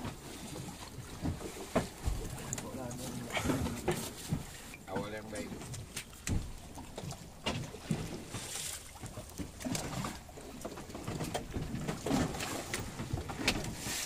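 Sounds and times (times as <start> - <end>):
knocks and clicks on boat: 0.0 - 14.0.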